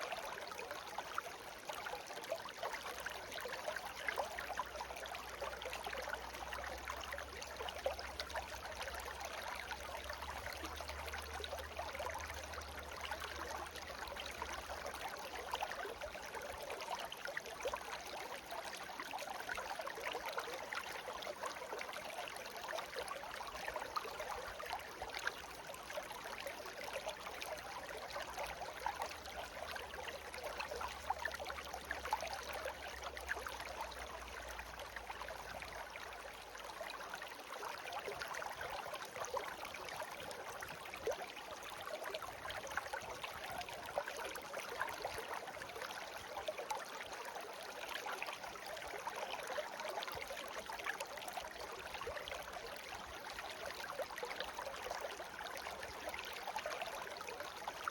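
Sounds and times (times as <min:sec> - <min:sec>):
brook babbling: 0:00.0 - 0:57.9.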